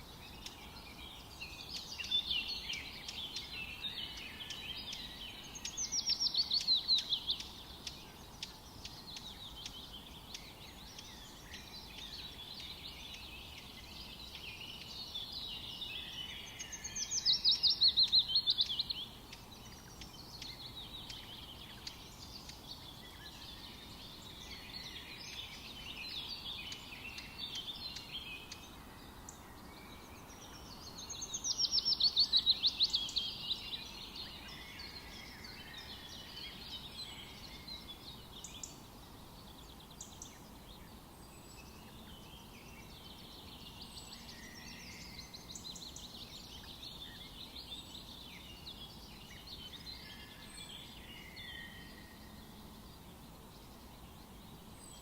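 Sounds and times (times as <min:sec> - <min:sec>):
forest birds singing: 0:00.0 - 0:55.0.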